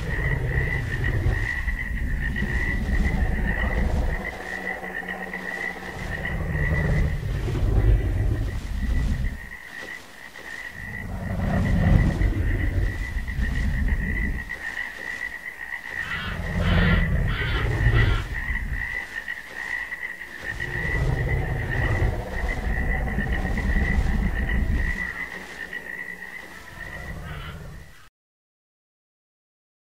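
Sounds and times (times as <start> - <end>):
low rough dragon growls: 0.0 - 9.4, 10.7 - 14.6, 16.0 - 19.0, 20.2 - 27.8.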